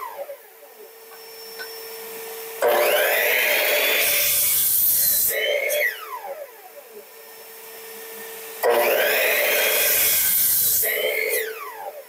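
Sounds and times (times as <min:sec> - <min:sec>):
miter saw cutting wood: 0:00.0 - 0:12.0
saw blade winding down whine: 0:00.0 - 0:12.0
shop vac humming: 0:00.0 - 0:12.0.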